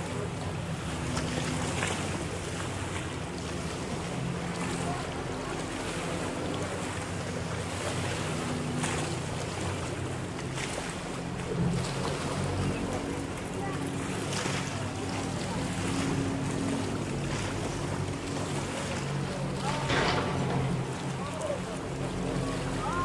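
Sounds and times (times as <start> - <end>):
motorboat engine droning: 0.0 - 23.0.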